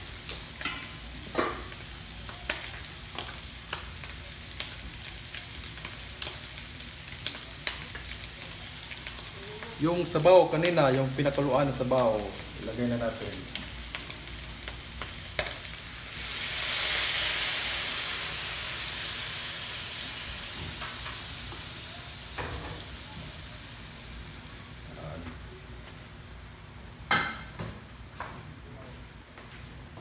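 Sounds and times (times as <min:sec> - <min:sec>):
broth sizzling in a hot wok: 0:00.0 - 0:27.6.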